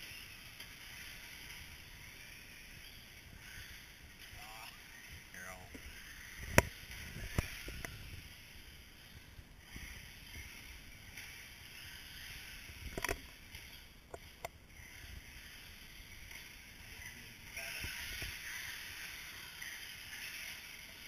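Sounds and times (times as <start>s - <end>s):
radio-controlled trucks whirring: 0.0s - 21.0s.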